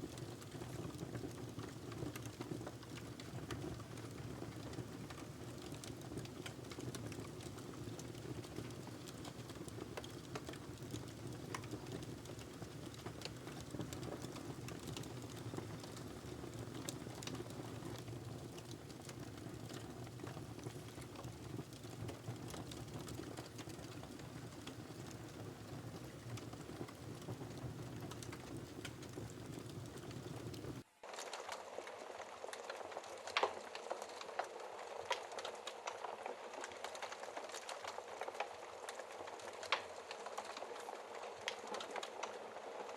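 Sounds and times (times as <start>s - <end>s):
fire crackles and pops: 0.0s - 42.9s
low rumble of flames: 0.1s - 42.9s.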